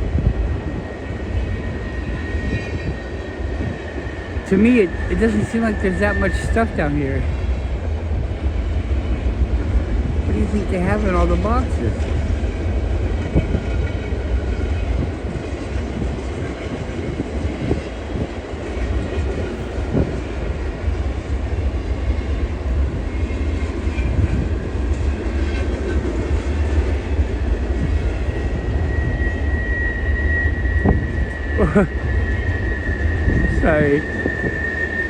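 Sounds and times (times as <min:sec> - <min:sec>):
high steady whine: 0:00.0 - 0:25.3, 0:26.6 - 0:35.0
freight train rumbling and rattling: 0:00.0 - 0:35.0.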